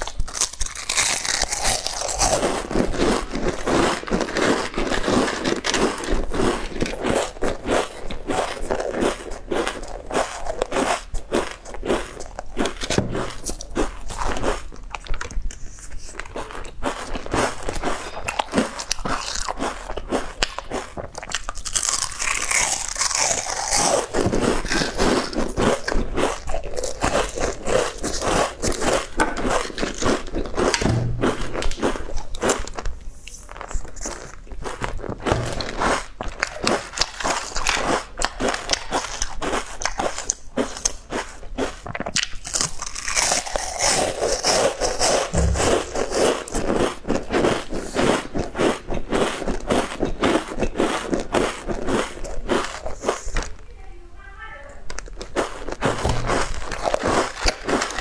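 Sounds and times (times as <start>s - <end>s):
crunching and chewing chips: 0.0s - 53.7s, 54.8s - 58.0s.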